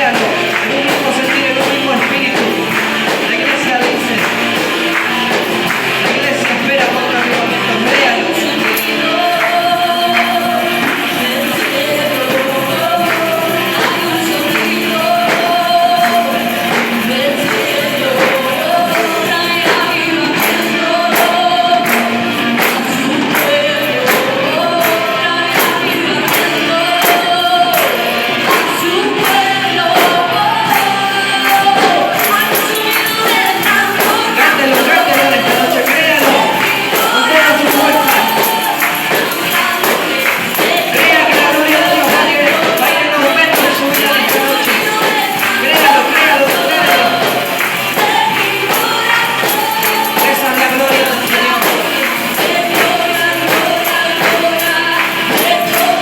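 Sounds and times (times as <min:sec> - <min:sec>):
choir singing gospel song: 0:00.0 - 0:56.0
tambourine-like percussion: 0:00.0 - 0:56.0.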